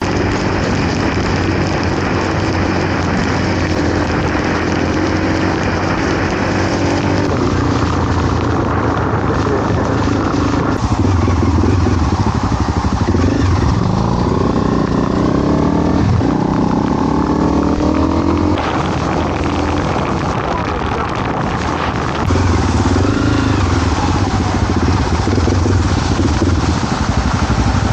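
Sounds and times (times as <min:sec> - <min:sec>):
heavy rain hiss: 0:00.0 - 0:17.3, 0:17.9 - 0:27.9
motorcycle engine running: 0:00.0 - 0:27.9
wind: 0:00.0 - 0:27.9.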